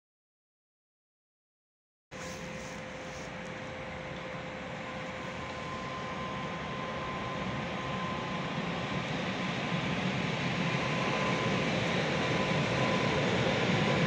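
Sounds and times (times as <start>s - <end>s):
faint steady whine: 2.2s - 14.0s.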